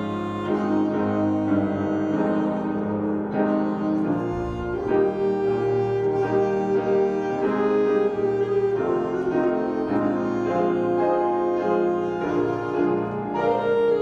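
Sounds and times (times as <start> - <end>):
bowed strings: 0.0 - 14.0
piano: 0.0 - 14.0.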